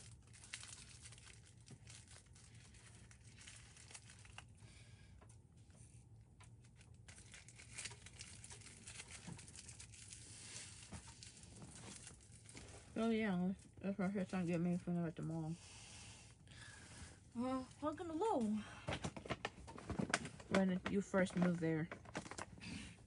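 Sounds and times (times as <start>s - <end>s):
small crackles: 0.0s - 15.4s, 19.2s - 22.9s
faint crinkling and rustling: 0.0s - 15.6s, 16.6s - 23.0s.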